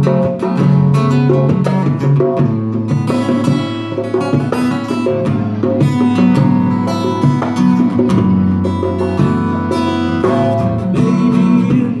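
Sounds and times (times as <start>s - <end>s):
acoustic guitar strumming: 0.0s - 12.0s
hand drum beat: 0.0s - 12.0s.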